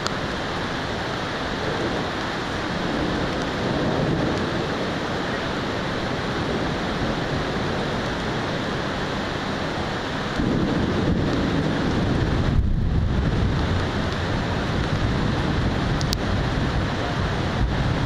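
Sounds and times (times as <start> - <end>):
heavy rain hiss: 0.0 - 18.0
low rumble of thunder: 0.0 - 18.0.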